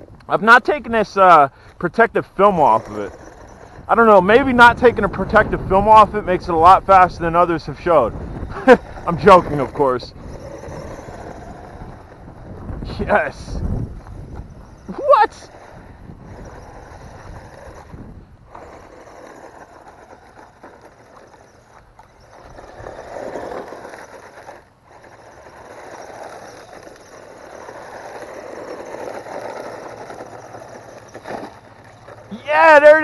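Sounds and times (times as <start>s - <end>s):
rc truck motor and tyres: 0.0s - 33.0s.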